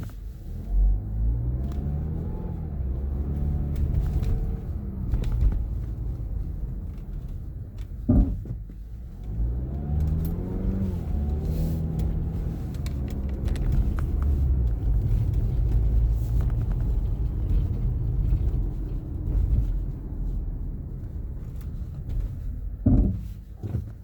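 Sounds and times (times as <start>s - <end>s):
road and engine rumble: 0.0s - 24.0s.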